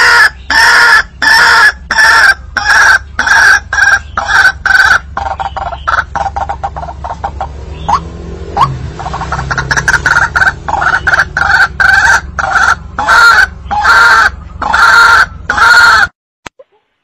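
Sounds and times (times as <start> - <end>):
waterhen call: 0.0 - 17.0.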